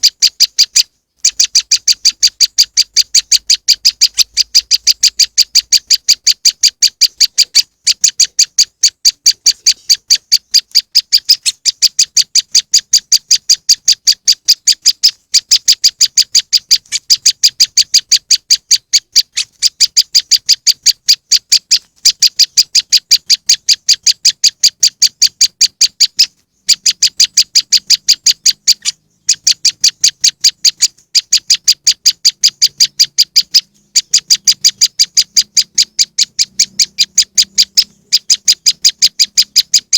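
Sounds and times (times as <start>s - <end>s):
bird high sharp chip notes: 0.0s - 39.9s.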